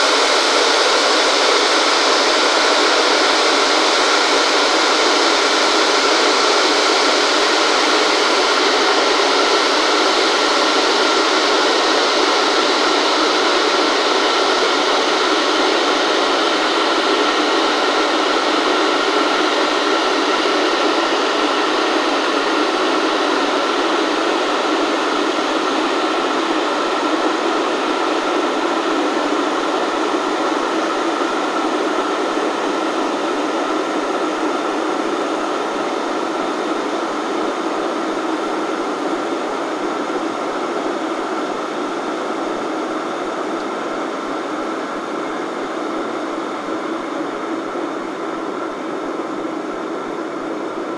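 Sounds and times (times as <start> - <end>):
electric kettle heating water: 0.0 - 50.9.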